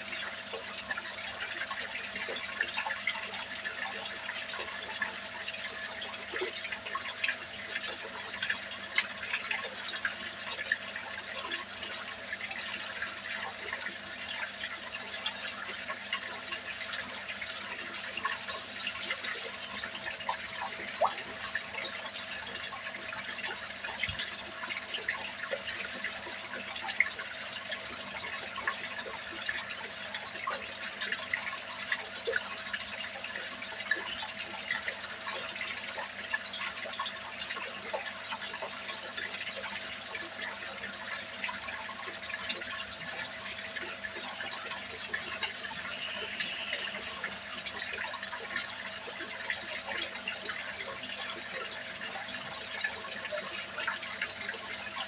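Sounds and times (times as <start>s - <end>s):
faint steady hum: 0.0s - 55.0s
fish churning water: 0.0s - 55.0s
water pouring into a pond: 0.0s - 55.0s.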